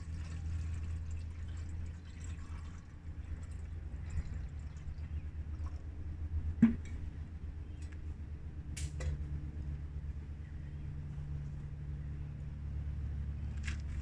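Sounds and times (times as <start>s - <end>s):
stove low rumble: 0.0s - 14.0s.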